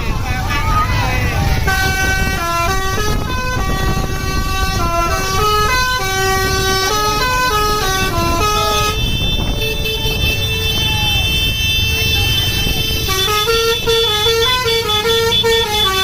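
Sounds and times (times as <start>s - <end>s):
musical air horn playing a tune: 0.2s - 16.0s.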